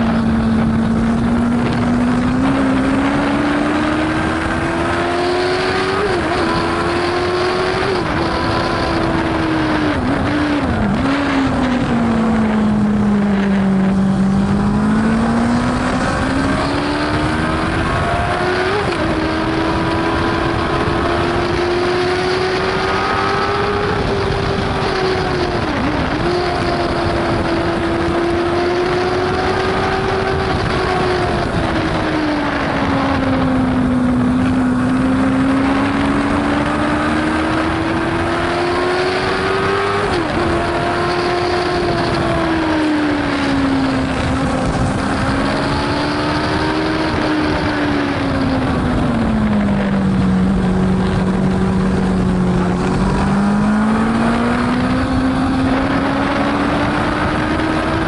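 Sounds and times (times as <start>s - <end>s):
racing engine at high revs: 0.0s - 58.0s
wind noise on microphone: 0.0s - 58.0s.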